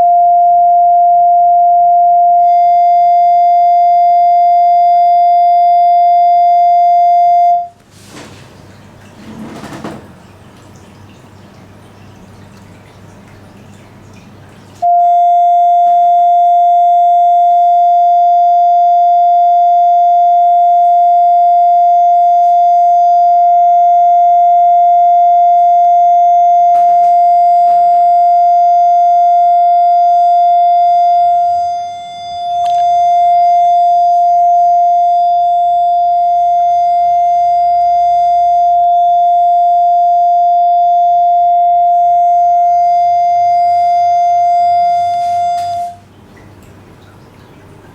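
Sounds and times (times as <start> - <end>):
steady test tone: 0.0 - 7.8, 14.8 - 46.1
aquarium water trickling: 2.5 - 47.9.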